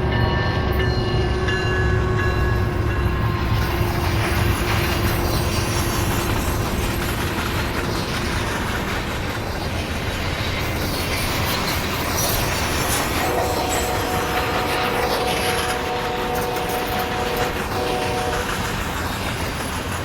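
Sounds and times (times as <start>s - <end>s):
freight train wheels on rail: 0.0s - 20.0s.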